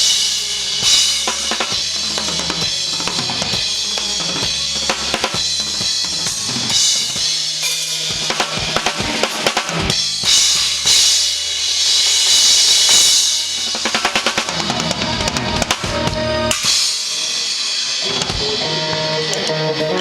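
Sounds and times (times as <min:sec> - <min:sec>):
cymbals washing: 0:00.0 - 0:20.0.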